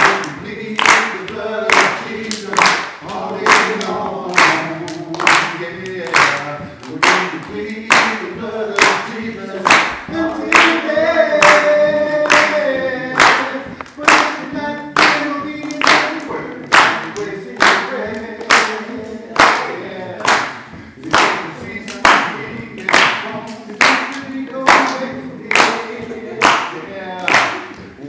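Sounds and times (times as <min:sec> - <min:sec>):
group of voices singing: 0:00.0 - 0:28.0
hands clapping on the beat: 0:00.0 - 0:28.0.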